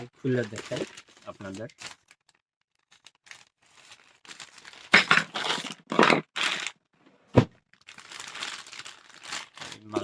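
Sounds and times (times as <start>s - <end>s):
packaging crinkling and tearing: 0.2s - 6.9s, 7.6s - 10.0s.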